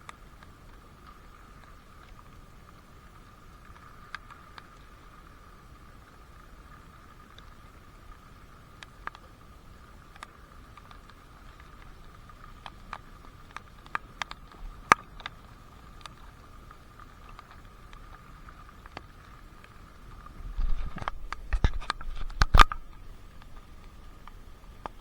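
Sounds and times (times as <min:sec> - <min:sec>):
faint steady whine: 0:00.0 - 0:25.0.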